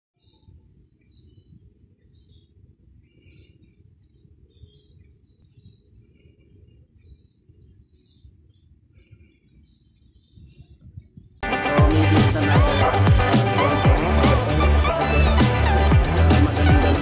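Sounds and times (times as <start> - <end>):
birds chirping faintly: 0.2 - 17.0.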